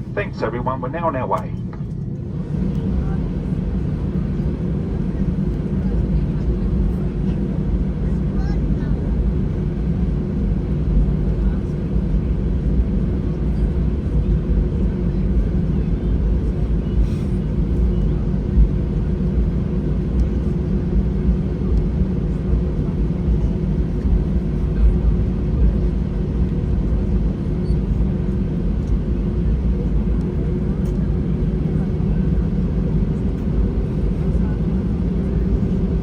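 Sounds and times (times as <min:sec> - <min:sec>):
aircraft engines humming: 0:00.0 - 0:36.0.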